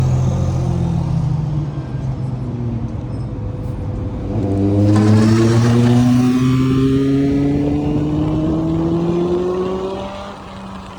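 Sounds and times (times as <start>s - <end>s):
motor vehicle accelerating: 0.0s - 10.9s.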